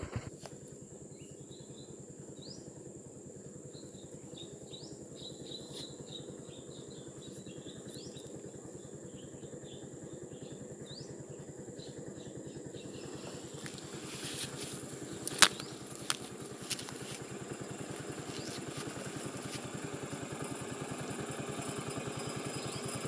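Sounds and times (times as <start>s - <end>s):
high insect whine: 0.0s - 23.0s
low fluttering background noise: 0.0s - 23.0s
small birds chirping: 0.0s - 23.0s.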